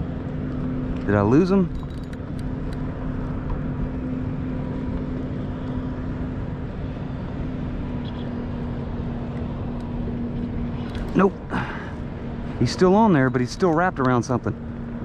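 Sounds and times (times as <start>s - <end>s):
steady motor hum: 0.0s - 15.0s
wind: 0.0s - 15.0s.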